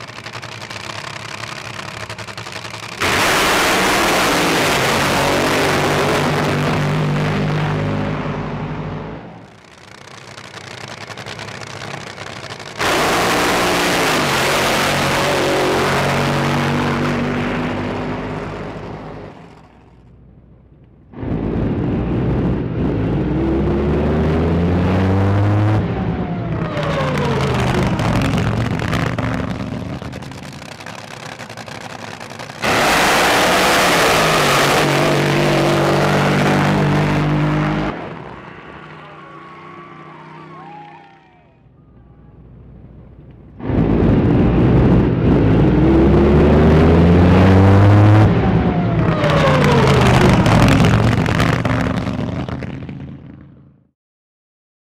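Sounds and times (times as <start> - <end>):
drag boat engines roaring: 0.0 - 53.4.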